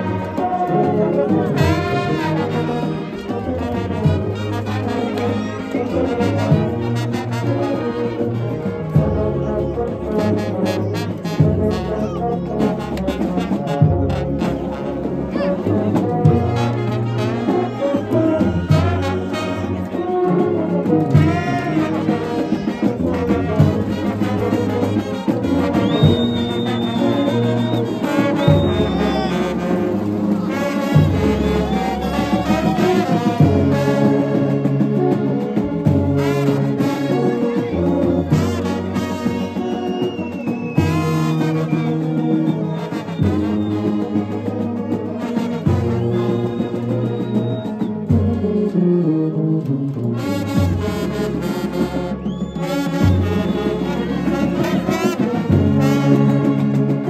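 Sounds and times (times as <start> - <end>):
brass band playing a hymn: 0.0 - 57.0
pulsing tuba bass line: 0.0 - 57.0.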